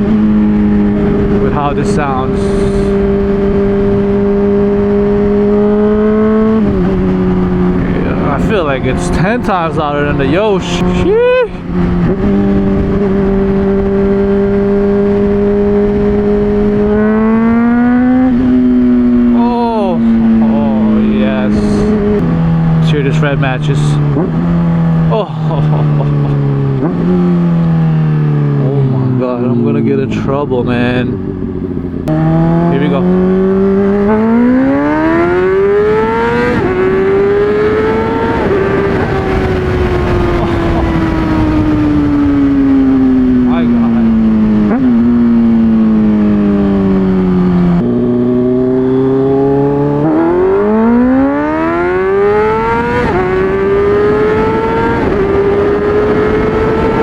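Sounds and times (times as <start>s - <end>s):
wind noise: 0.0s - 29.2s, 30.0s - 57.0s
motorcycle engine revving: 0.0s - 57.0s.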